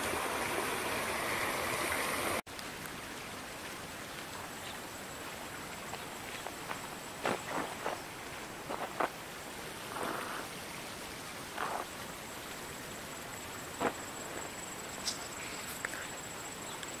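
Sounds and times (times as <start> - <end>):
steady hiss: 0.0 - 17.0
faint high whine: 3.2 - 17.0.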